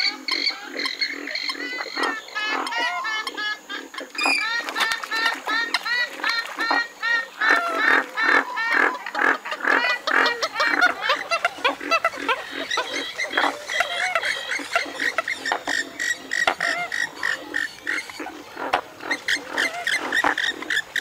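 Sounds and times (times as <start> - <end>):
swamphen calling: 0.0 - 21.0.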